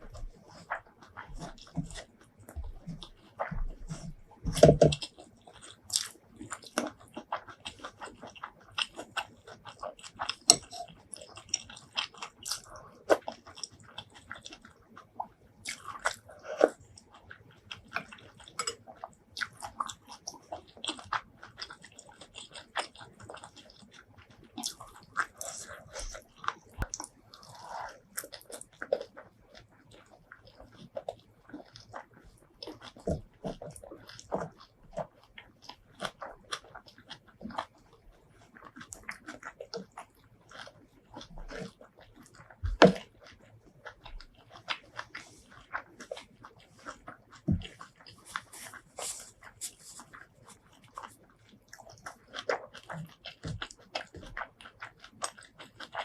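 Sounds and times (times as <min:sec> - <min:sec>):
food crunching: 0:00.0 - 0:56.0
chewing with wet mouth clicks: 0:00.1 - 0:56.0.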